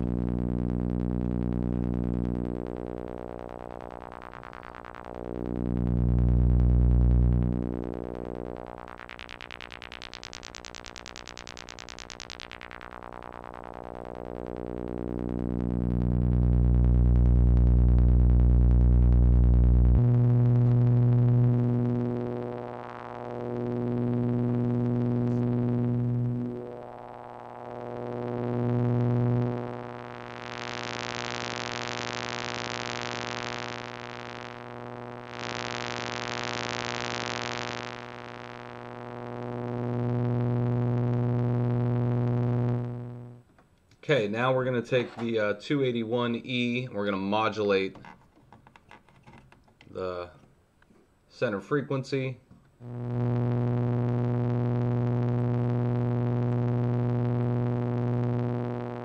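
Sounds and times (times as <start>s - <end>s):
filtered synth drone: 0.0s - 43.5s, 52.8s - 59.0s.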